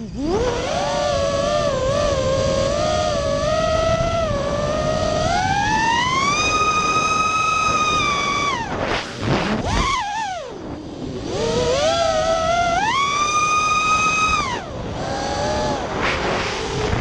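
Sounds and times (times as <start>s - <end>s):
quadcopter motors whining: 0.0s - 17.0s
wind noise: 0.0s - 17.0s.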